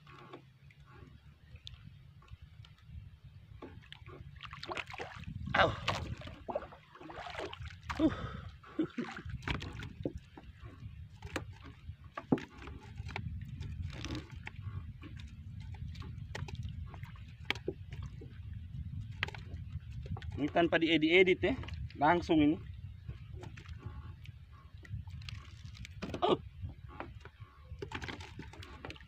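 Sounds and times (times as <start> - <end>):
light knocks and clicks in boat: 0.0 - 29.0
water lapping against canoe hull: 0.0 - 29.0.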